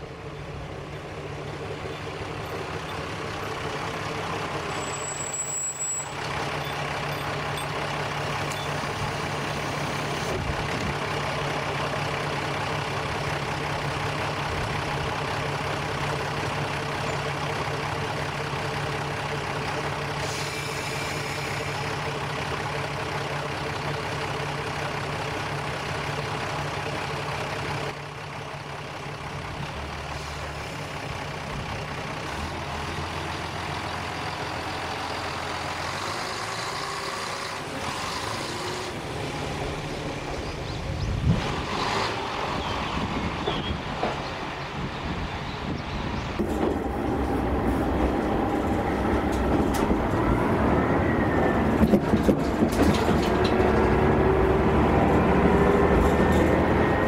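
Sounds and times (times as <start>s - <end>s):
diesel railcar engine idling: 0.0s - 38.0s, 38.7s - 41.4s, 42.4s - 57.0s.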